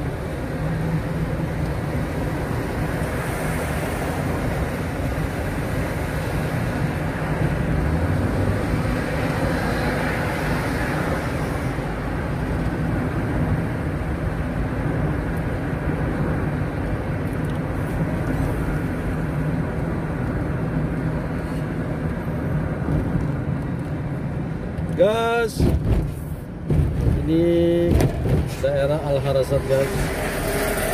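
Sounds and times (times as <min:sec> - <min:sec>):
car engine hum: 0:00.0 - 0:30.9
road noise: 0:00.0 - 0:30.9.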